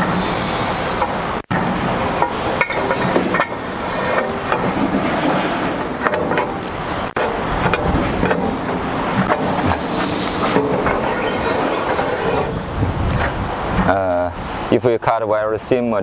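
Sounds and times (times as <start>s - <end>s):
workshop machinery noise: 0.0s - 14.7s.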